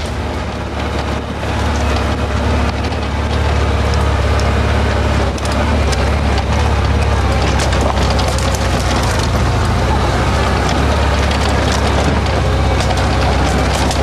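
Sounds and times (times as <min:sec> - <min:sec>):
buggy engine running under load: 0:00.0 - 0:14.0
sharp cracks and knocks: 0:00.0 - 0:14.0.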